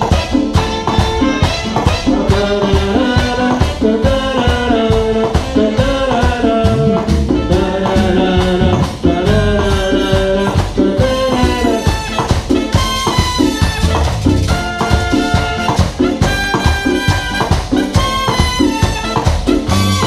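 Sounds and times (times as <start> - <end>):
horn section holding chords: 0.0 - 20.0
percussion beat: 0.0 - 20.0.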